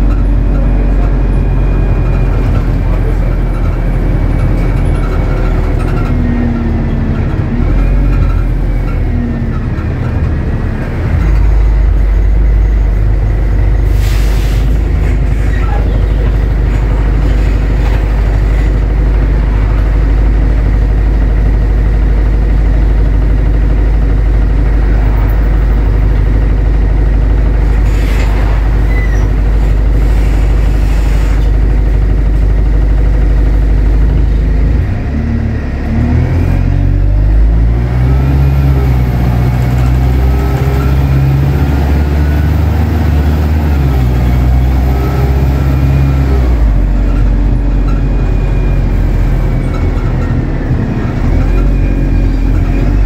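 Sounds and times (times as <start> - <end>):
bus engine droning: 0.0 - 53.0.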